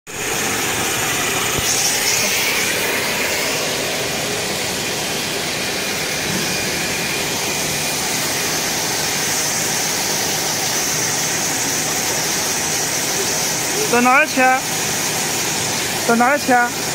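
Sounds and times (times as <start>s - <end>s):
high whine: 0.1s - 16.9s
machine motors humming: 0.1s - 16.9s.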